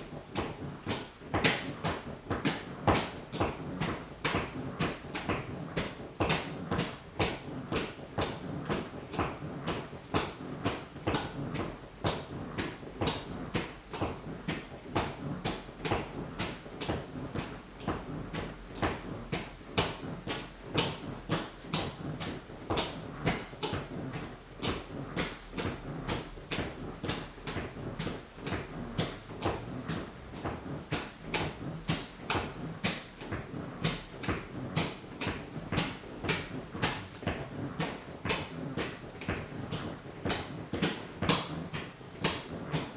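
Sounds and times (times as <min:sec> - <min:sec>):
sneakers tapping: 0:00.0 - 0:42.9.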